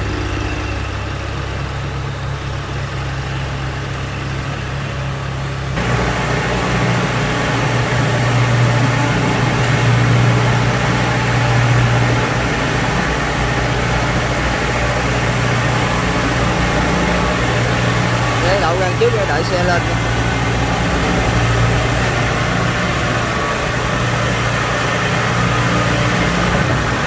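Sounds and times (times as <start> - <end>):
combine harvester diesel engine: 0.0 - 27.0.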